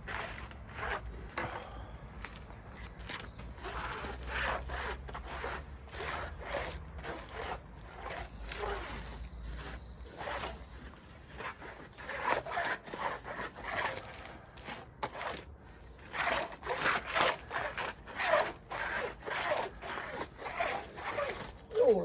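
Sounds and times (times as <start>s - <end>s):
rubbing and scraping strokes: 0.0s - 21.9s.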